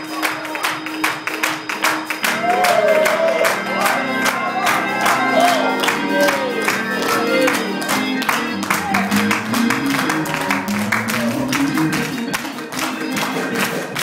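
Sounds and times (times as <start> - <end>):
organ chords: 0.8 - 14.0.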